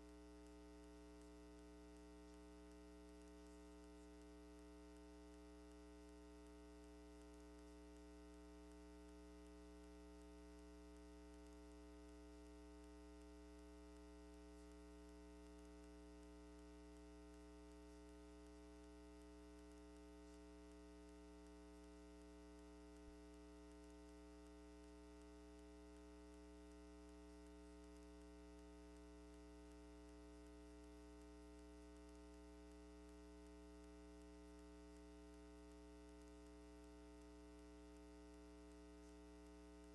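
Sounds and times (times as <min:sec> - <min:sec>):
faint electrical mains hum: 0:00.0 - 0:39.9.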